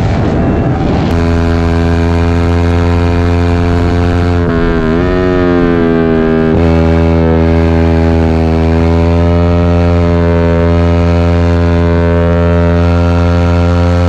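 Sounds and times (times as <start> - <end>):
motorcycle engine running: 0.8 - 14.0.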